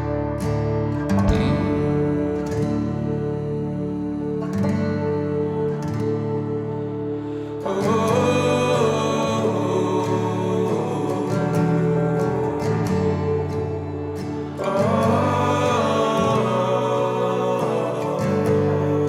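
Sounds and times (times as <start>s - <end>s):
slow song music: 0.0s - 19.0s.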